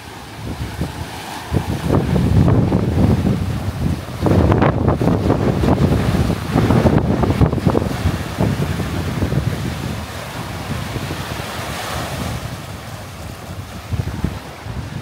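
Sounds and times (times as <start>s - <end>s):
sea waves on a beach: 0.0s - 15.0s
surf hiss: 0.0s - 15.0s
wind buffeting microphone: 0.0s - 15.0s.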